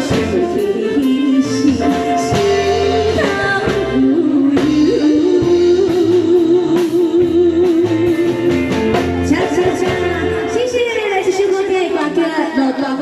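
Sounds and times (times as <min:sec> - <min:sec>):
backing music: 0:00.0 - 0:13.0
woman singing a ballad: 0:00.0 - 0:13.0.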